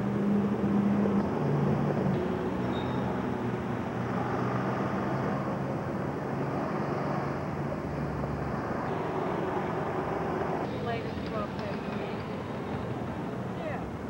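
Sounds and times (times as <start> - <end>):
cars passing: 0.0 - 14.0
low engine hum: 0.0 - 14.0.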